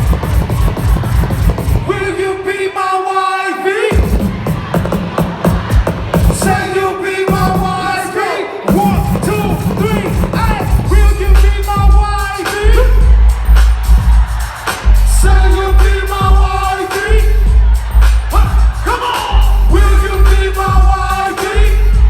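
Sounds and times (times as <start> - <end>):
live band with singer: 3.6 - 22.0.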